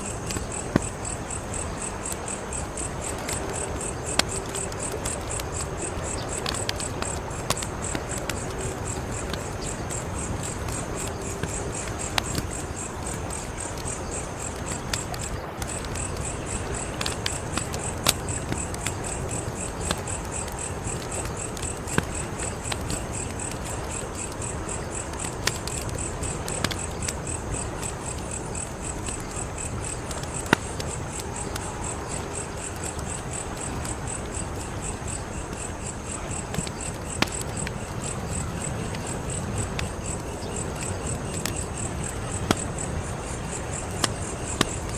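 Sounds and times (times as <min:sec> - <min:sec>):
crickets chirping: 0:00.0 - 0:44.9
fire crackling and popping: 0:00.0 - 0:44.9.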